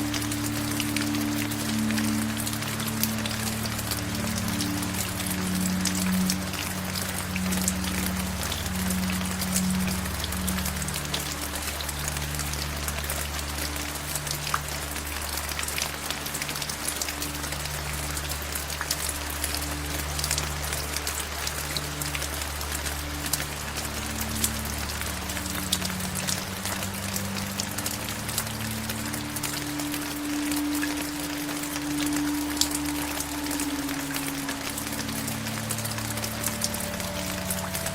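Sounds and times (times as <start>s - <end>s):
soft low held musical notes: 0.0s - 37.9s
steady rain: 0.0s - 37.9s.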